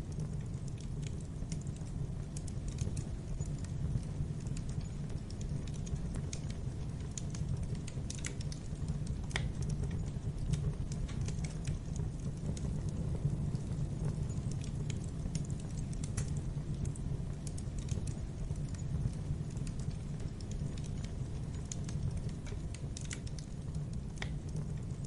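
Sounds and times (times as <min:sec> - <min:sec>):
fire crackling and snapping: 0:00.0 - 0:25.0
low rumble of fire: 0:00.0 - 0:25.0.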